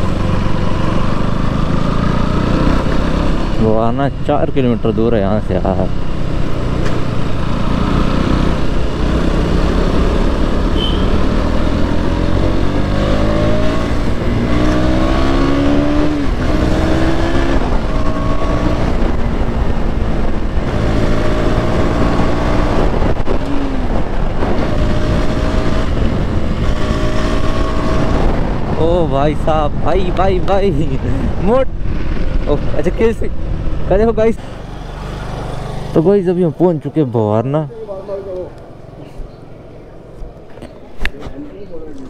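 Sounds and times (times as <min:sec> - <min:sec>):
motorcycle engine revving: 0:00.0 - 0:36.7
riding wind noise: 0:00.0 - 0:37.2.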